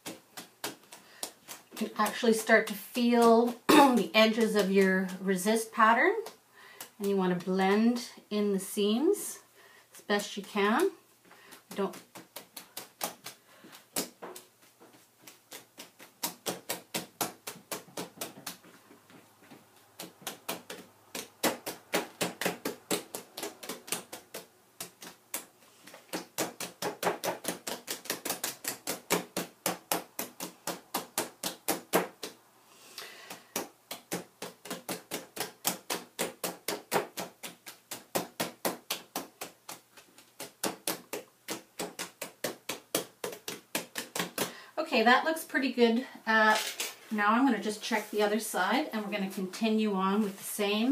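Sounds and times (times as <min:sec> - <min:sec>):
wet hands patting wool: 0:00.0 - 0:07.9, 0:10.0 - 0:32.4, 0:33.0 - 0:44.6.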